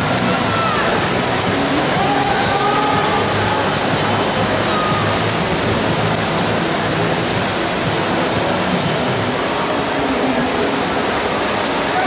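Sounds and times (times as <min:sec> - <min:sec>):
spectator crowd noise: 0:00.0 - 0:12.0
swimmers splashing: 0:00.0 - 0:12.0.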